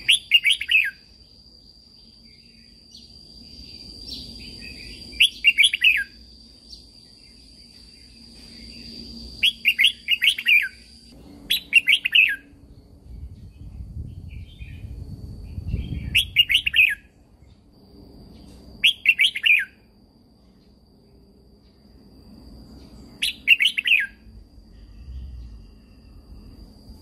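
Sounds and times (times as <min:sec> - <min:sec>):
bird singing whistled notes: 0:00.0 - 0:17.7, 0:18.3 - 0:20.0, 0:22.6 - 0:27.0.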